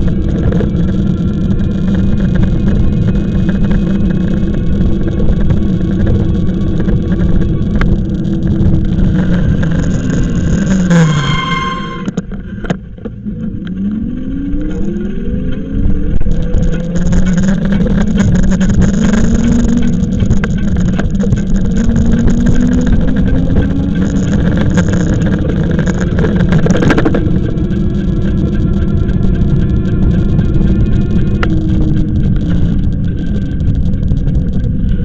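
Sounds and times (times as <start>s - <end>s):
vehicle engine: 0.0s - 35.0s
wind and road rumble: 0.0s - 35.0s.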